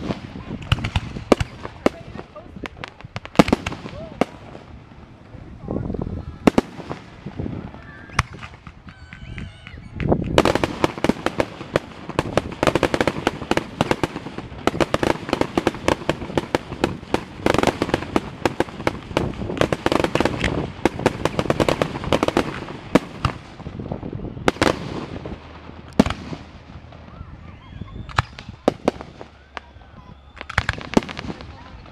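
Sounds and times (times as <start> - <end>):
fireworks crackling and banging: 0.0 - 31.9.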